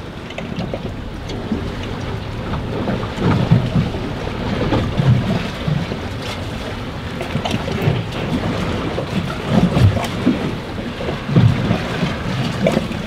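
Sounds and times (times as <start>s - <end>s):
choppy water against boat: 0.0s - 13.0s
wind buffeting microphone: 0.0s - 13.0s.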